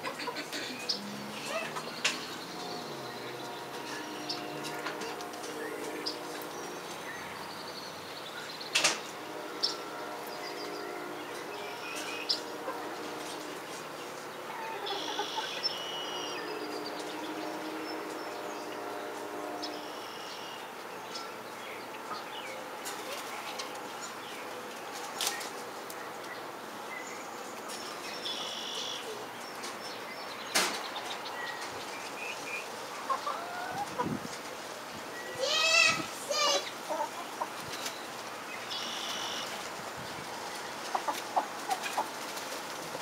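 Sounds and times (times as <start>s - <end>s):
birds chirping: 0.0s - 42.3s.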